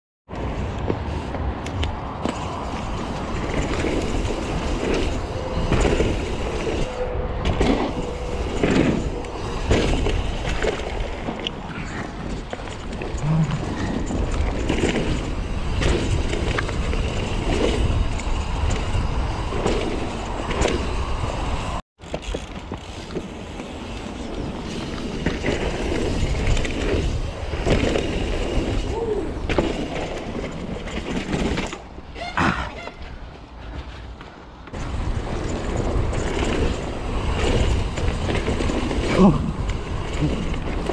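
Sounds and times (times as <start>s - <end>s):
bike rattles and knocks: 0.3s - 32.4s, 33.0s - 40.9s
bike tyres on dirt: 0.3s - 40.9s
wind noise: 0.3s - 40.9s.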